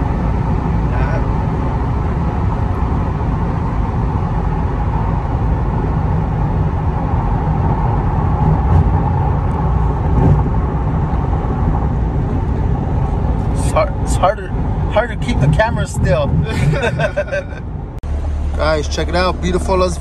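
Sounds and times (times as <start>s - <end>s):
car engine low drone: 0.0s - 20.0s
road and wind noise: 0.0s - 20.0s.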